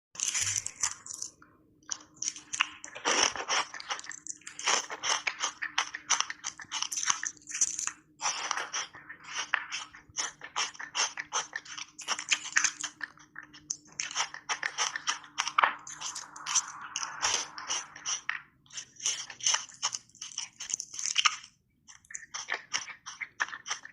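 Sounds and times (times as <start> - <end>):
crunching ice cubes: 0.2 - 1.3, 1.9 - 15.5, 18.7 - 23.9.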